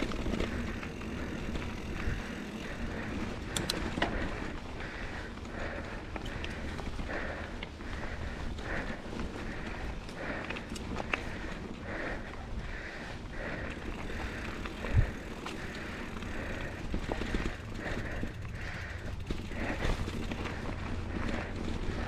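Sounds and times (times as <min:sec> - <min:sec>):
bike tyres rumbling on dirt: 0:00.0 - 0:22.0
rider heavy breathing: 0:00.0 - 0:22.0.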